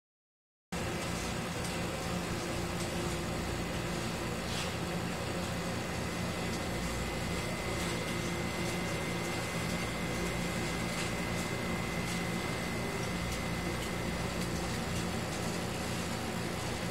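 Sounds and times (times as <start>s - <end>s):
aquarium pump humming and hissing: 0.8s - 16.9s.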